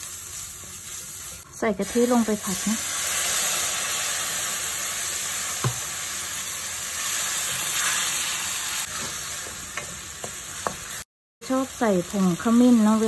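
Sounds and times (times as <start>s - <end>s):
curry paste sizzling in pan: 0.0s - 13.0s.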